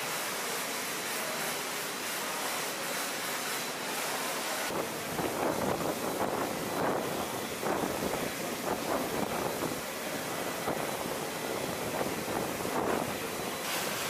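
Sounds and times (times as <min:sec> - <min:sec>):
water spray hitting metal: 0:00.0 - 0:14.0.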